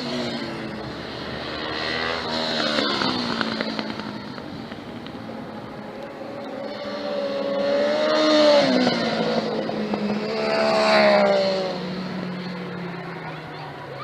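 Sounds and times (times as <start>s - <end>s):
motorcycles passing at speed: 0.0s - 14.0s.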